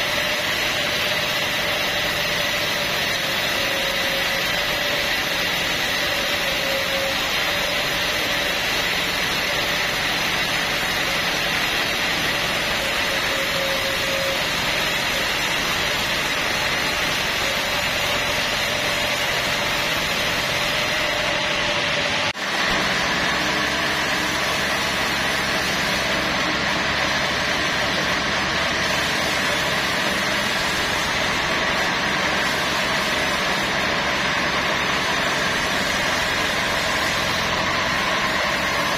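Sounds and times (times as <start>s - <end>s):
band saw whining: 0.0s - 38.9s.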